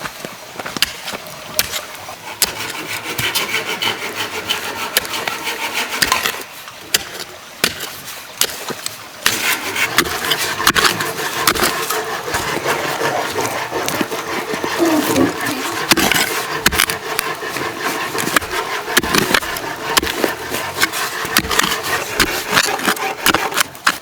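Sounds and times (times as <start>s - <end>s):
rasping scraping on bamboo: 1.6s - 6.6s, 9.2s - 24.0s.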